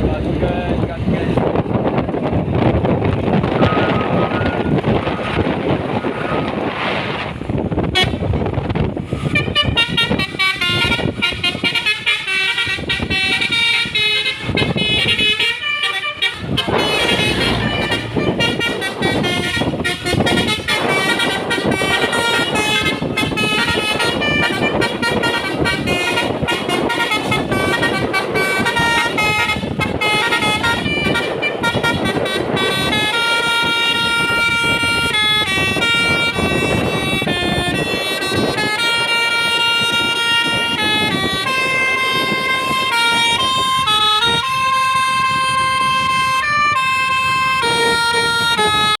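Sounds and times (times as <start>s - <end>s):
road and engine noise: 0.0s - 49.0s
musical air horn melody: 7.9s - 8.2s, 9.2s - 49.0s.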